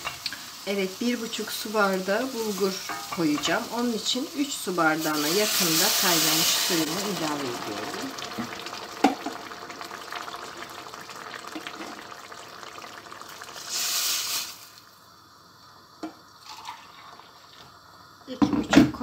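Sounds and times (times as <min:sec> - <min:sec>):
sauce sizzling in a pan: 0:00.0 - 0:18.4
water hissing in hot pan: 0:00.0 - 0:18.4.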